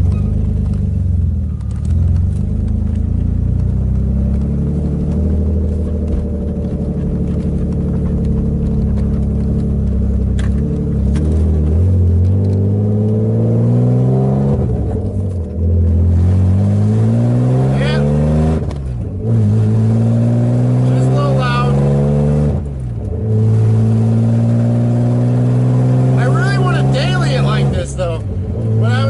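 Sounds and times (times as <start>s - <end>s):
car engine heard from inside cabin: 0.0s - 29.0s.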